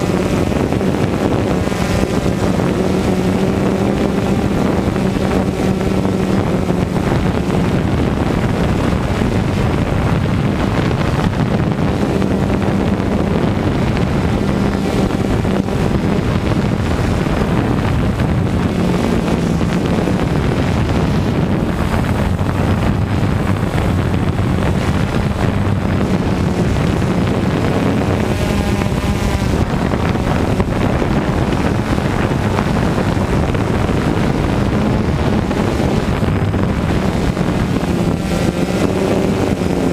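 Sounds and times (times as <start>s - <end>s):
drone motors buzzing: 0.0s - 39.9s
wind on microphone: 0.0s - 39.9s.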